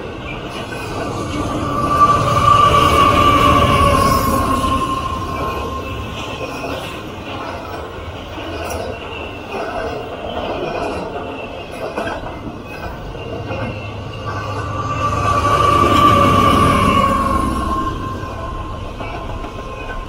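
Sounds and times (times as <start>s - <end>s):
train wheels rumbling and clattering: 0.0s - 20.0s
wheel squeal: 0.2s - 20.0s.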